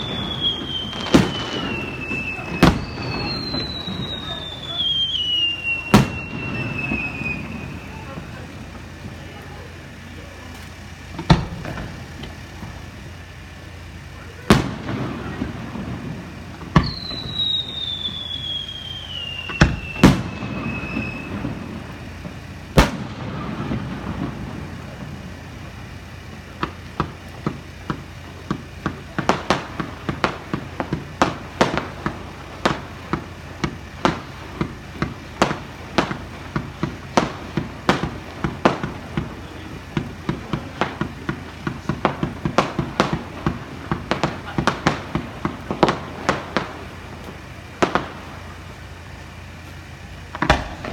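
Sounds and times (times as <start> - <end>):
firework whistle falling: 0.0 - 9.4, 14.3 - 48.7
small firework pops: 0.0 - 13.4, 14.2 - 50.9
firework bangs: 0.0 - 50.9.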